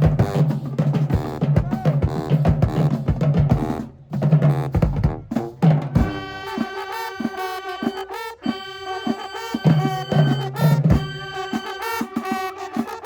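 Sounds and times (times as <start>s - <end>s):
drumline beat: 0.0s - 13.0s
marching band horns: 0.0s - 13.0s.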